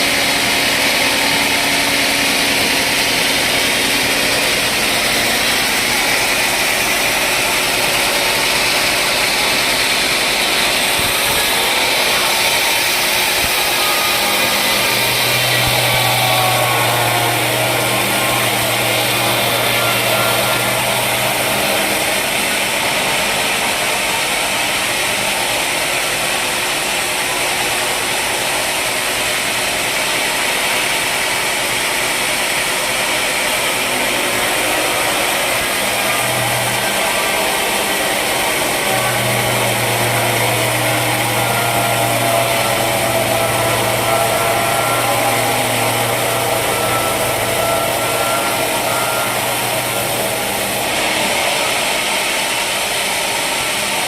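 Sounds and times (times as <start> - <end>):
saw and motor cutting wood: 0.0 - 54.0.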